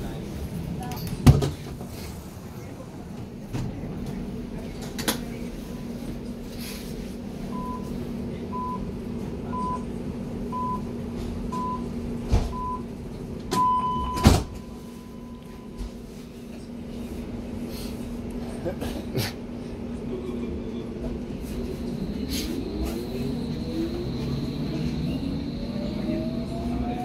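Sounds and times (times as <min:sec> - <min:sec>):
train hum: 0:00.0 - 0:27.0.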